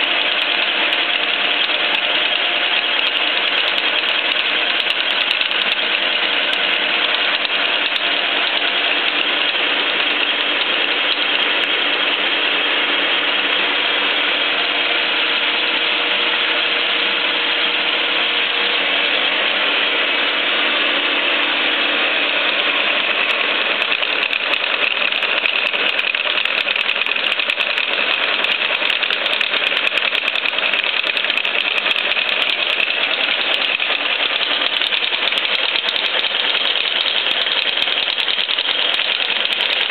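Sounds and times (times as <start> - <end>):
milling machine cutting steel: 0.0 - 39.9.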